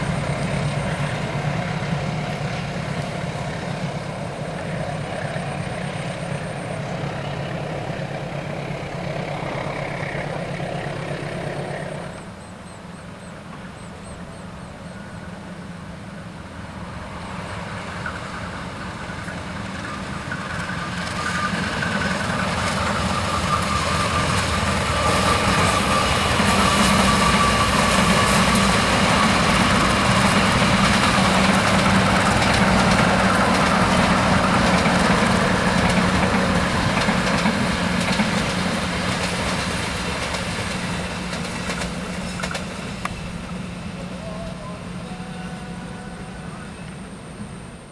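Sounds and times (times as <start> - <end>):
passenger train passing: 0.0 - 47.9.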